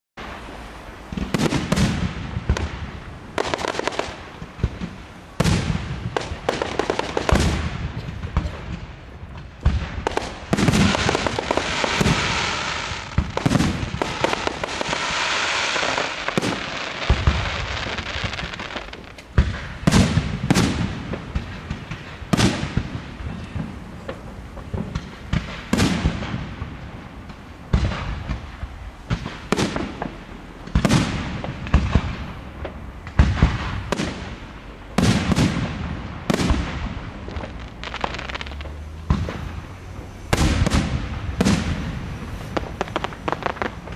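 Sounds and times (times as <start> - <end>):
dense rushing firework crackle: 0.2 - 43.9
firework shells bursting: 1.0 - 43.9.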